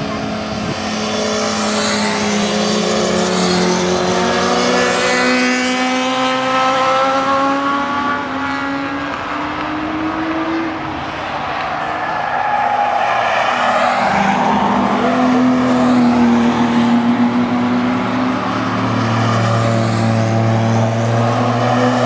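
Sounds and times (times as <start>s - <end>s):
motorcycle engines accelerating: 0.0s - 12.2s, 13.2s - 22.0s.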